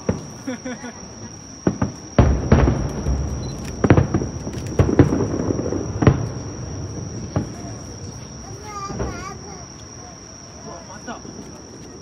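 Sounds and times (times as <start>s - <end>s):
fireworks booming with echo: 0.0s - 12.0s.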